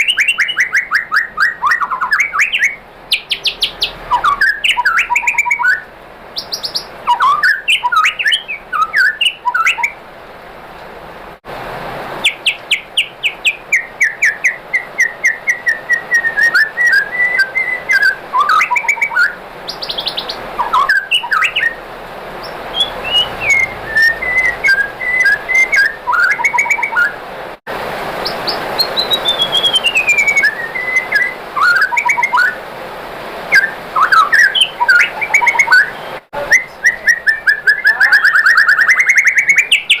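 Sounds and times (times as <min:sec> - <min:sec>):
bird singing whistles and chatter: 0:00.0 - 0:10.0, 0:12.2 - 0:21.8, 0:22.4 - 0:27.2, 0:28.2 - 0:32.6, 0:33.5 - 0:40.0.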